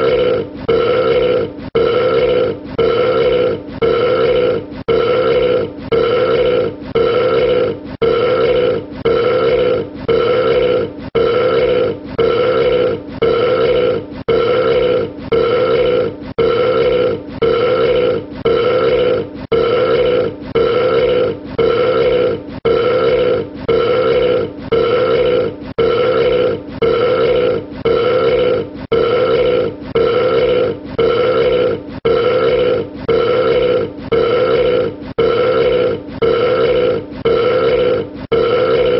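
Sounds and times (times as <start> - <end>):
man burping: 0.0 - 38.9.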